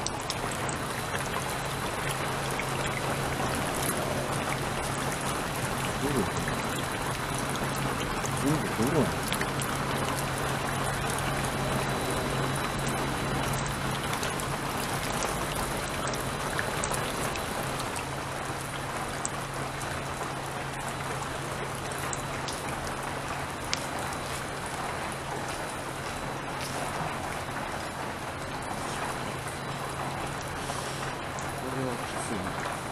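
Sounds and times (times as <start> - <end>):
stream running over rocks: 0.0 - 32.9.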